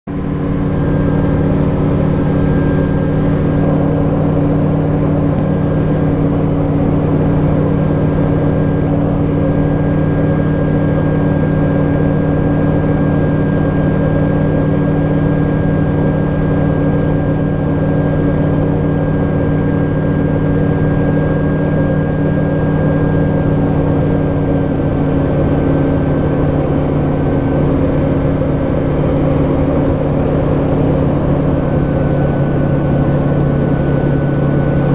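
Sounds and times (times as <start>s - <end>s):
propeller engine drone: 0.1s - 34.9s.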